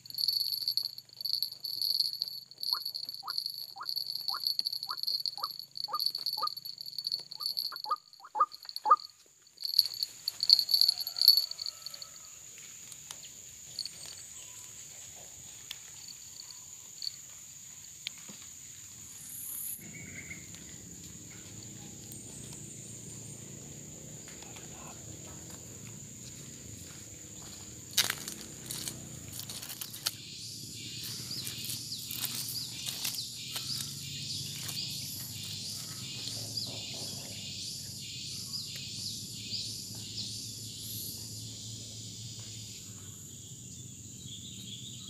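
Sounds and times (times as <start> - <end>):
high insect drone: 0.0 - 14.8, 15.7 - 45.0.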